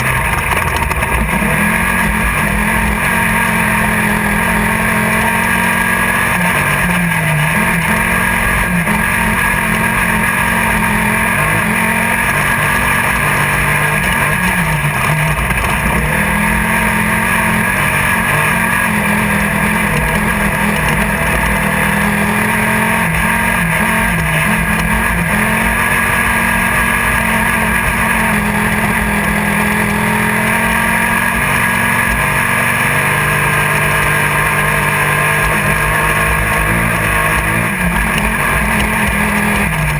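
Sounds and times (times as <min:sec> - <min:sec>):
race buggy engine running hard: 0:00.0 - 0:39.9
rushing rattle and road noise: 0:00.0 - 0:39.9.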